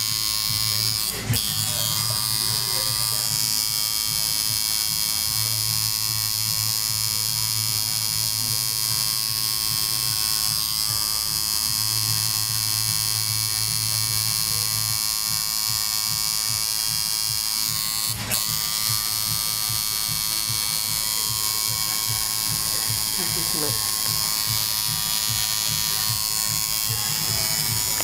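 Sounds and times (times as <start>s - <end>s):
tattoo machine buzzing: 0.0s - 28.0s.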